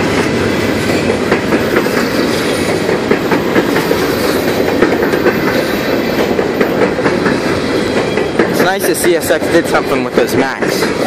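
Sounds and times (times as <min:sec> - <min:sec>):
clickety-clack over rail joints: 0:00.0 - 0:11.0
steel wheels rumbling on rail: 0:00.0 - 0:11.0.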